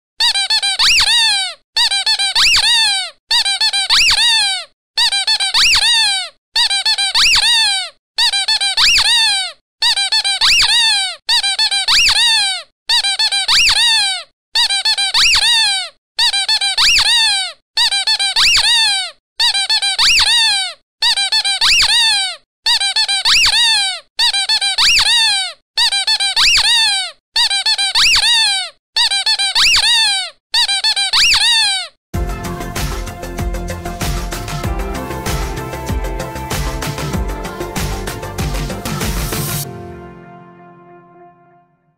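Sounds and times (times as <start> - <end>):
balloon squeaking: 0.2 - 39.7.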